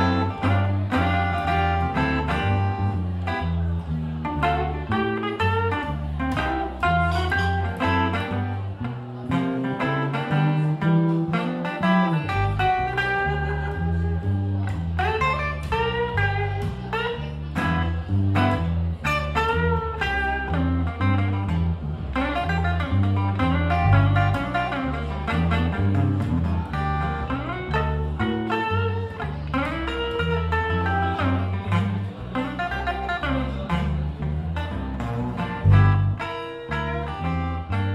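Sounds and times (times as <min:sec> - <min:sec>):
acoustic guitar lead lines: 0:00.0 - 0:37.9
walking double bass line: 0:00.0 - 0:37.9.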